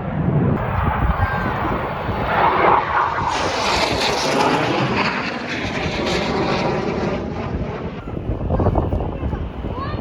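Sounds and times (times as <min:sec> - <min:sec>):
aircraft engine roar flying past: 0:00.0 - 0:10.0.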